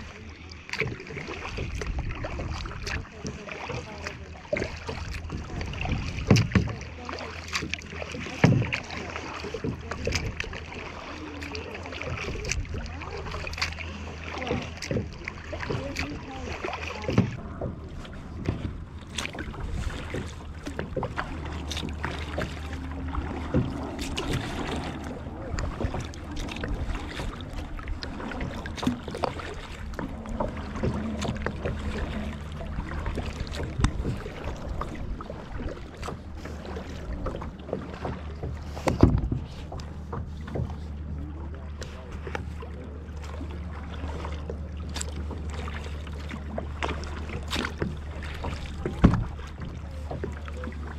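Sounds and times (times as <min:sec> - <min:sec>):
low steady rumble: 0:00.0 - 0:50.9
paddle strokes splashing: 0:00.0 - 0:50.9
water lapping against kayak hull: 0:00.0 - 0:50.9.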